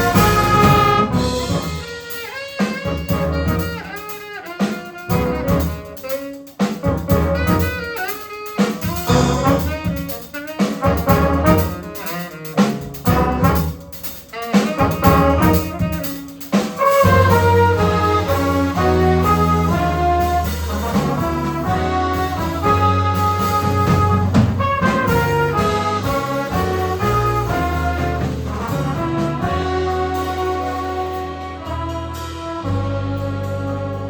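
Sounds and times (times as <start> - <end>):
double bass: 0.0 - 2.0, 2.8 - 3.9, 5.1 - 7.9, 8.8 - 34.0
brass section playing: 0.0 - 34.0
drum kit: 0.0 - 34.0
horn playing melody: 0.0 - 34.0.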